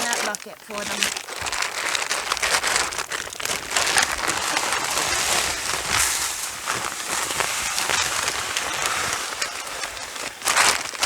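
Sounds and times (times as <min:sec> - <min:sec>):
grain feed pouring into bucket: 0:00.0 - 0:11.0.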